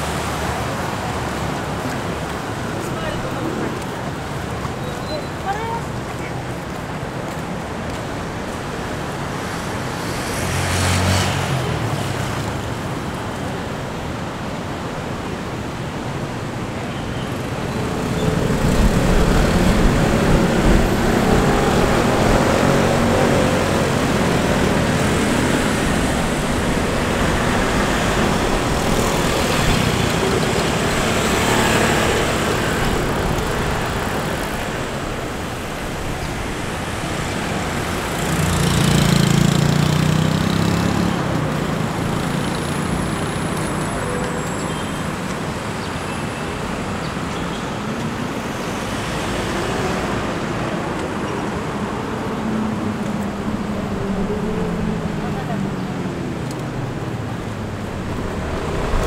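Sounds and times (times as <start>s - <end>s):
road traffic going by: 0.0s - 59.0s.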